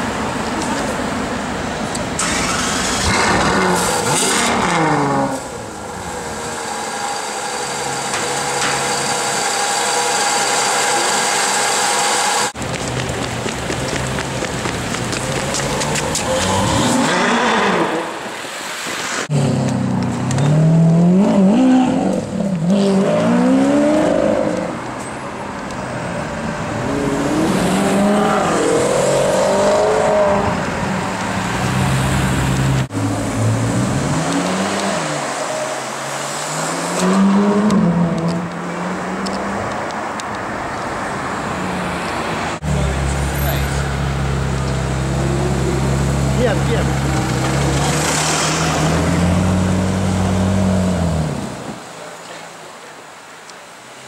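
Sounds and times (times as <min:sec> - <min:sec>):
car engines revving: 0:00.0 - 0:52.8.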